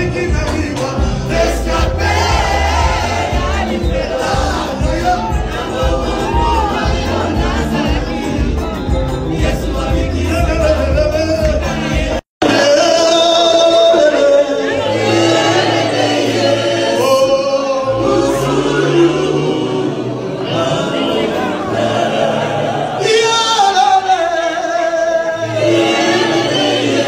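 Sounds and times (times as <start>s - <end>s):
music with singing: 0.0s - 27.0s.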